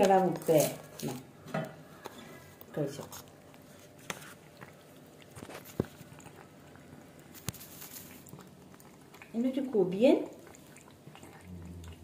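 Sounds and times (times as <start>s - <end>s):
cat chewing and licking: 1.8s - 12.0s.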